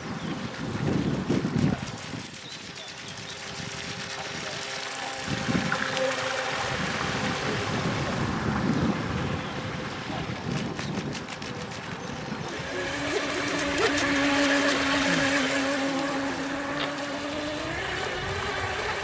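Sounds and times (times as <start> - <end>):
model boat motor whine: 0.0 - 19.0.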